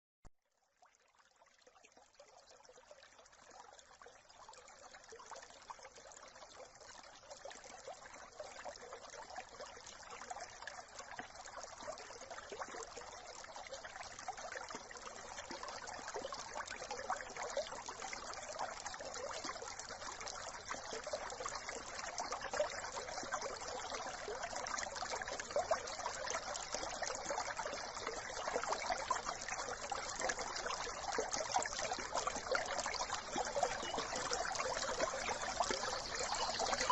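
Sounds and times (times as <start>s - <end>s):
brook water trickling: 0.5s - 36.9s.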